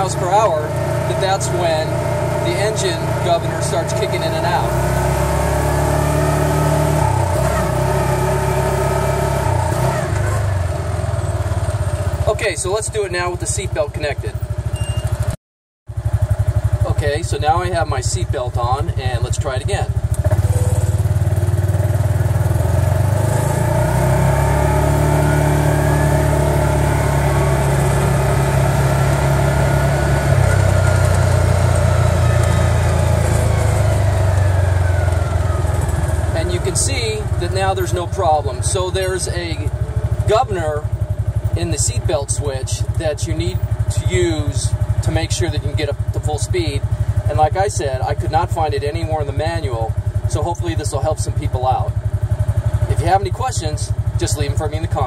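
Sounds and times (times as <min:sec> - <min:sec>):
utility vehicle engine running: 0:00.0 - 0:55.0.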